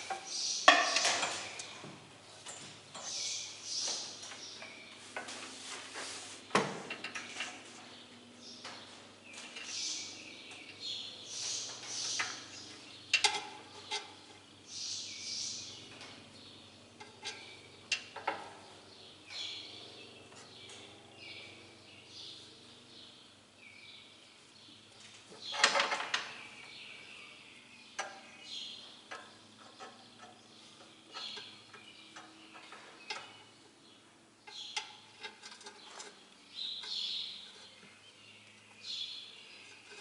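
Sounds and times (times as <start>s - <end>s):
birds chirping: 0.0s - 5.4s, 7.1s - 40.0s.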